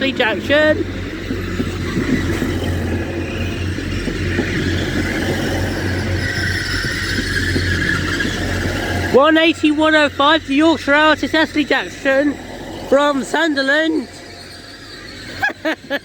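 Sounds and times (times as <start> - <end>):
diesel train engine hum: 0.0 - 16.0
faint high squeal: 0.0 - 16.0
train wheels rolling on rails: 0.0 - 16.0.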